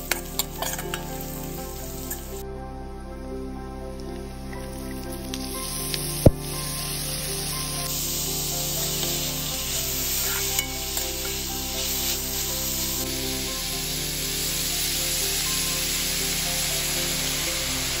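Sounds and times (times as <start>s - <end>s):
vegetables sizzling in a wok: 0.0s - 2.4s, 5.6s - 18.0s
background music: 0.0s - 18.0s.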